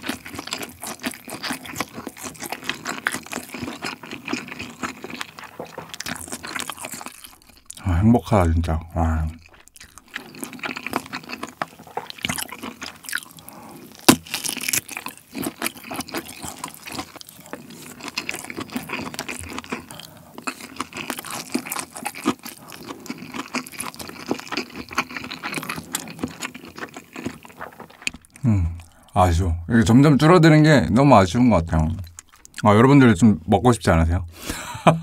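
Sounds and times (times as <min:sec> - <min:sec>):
close chewing mouth clicks and smacks: 0:00.0 - 0:07.8, 0:09.3 - 0:29.2, 0:32.0 - 0:32.6.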